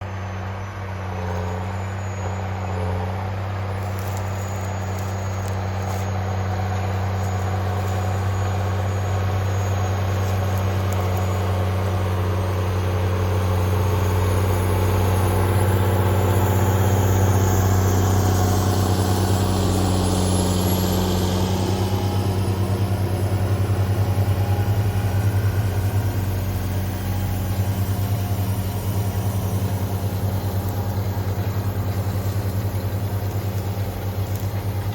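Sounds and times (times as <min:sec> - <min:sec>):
engine droning: 0:00.0 - 0:34.9.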